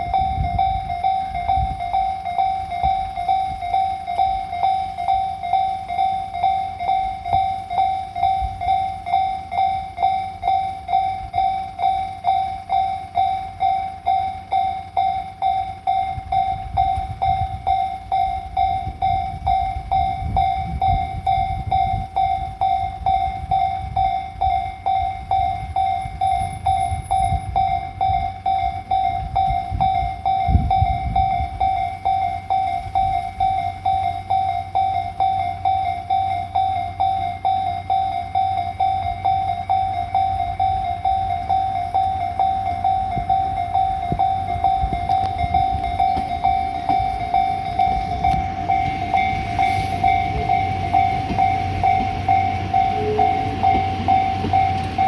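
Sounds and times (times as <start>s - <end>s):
level crossing bell dinging: 0.0s - 55.0s
train rumbling: 0.0s - 55.0s.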